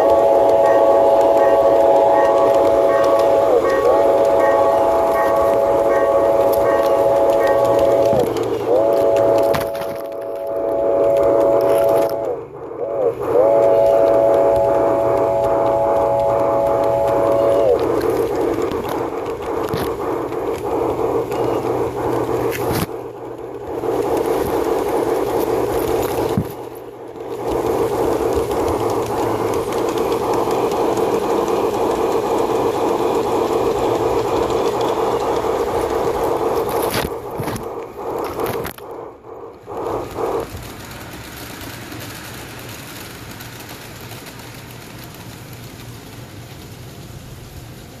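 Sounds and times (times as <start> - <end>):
model train wheels rattling: 0.0 - 48.0.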